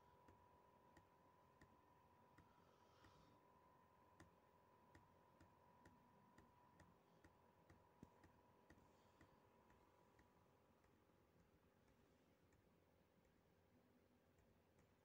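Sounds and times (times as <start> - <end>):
faint regular clicks: 0.2 - 3.2, 4.1 - 13.5.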